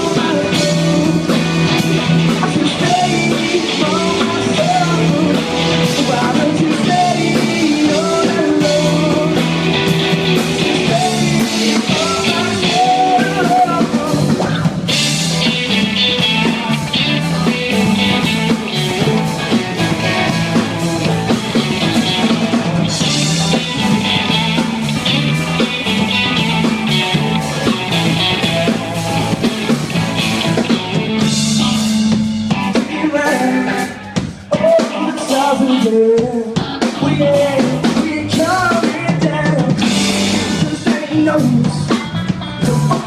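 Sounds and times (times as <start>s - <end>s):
drum kit and cymbals: 0.0s - 43.0s
rock band playing live: 0.0s - 43.0s.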